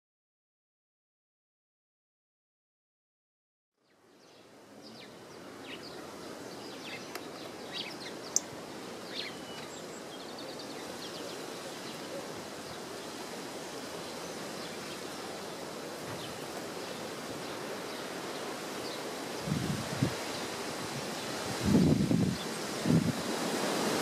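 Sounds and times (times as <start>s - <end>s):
small birds chirping: 3.8s - 23.5s
steady wind: 3.9s - 24.0s.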